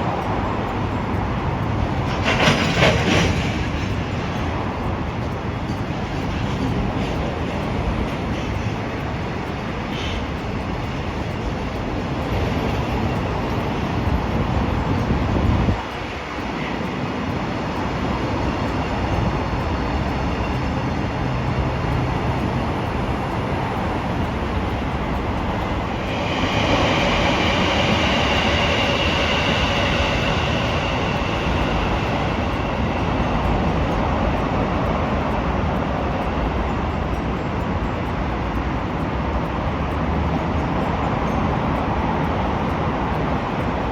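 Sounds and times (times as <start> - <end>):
high-pitched whine: 0.0 - 43.9
train rumbling on rails: 0.0 - 43.9.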